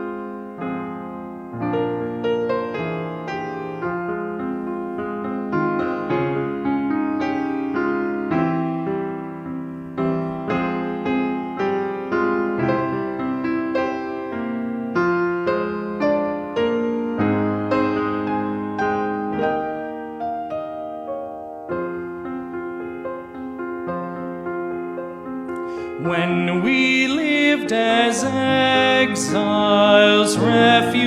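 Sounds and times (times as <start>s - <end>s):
grand piano playing: 0.0s - 31.0s.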